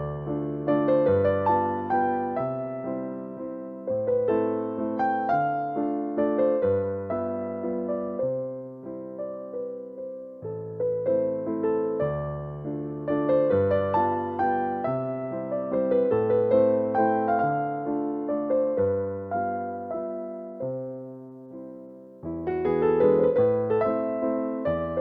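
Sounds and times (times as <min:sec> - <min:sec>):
gentle keyboard melody: 0:00.0 - 0:25.0.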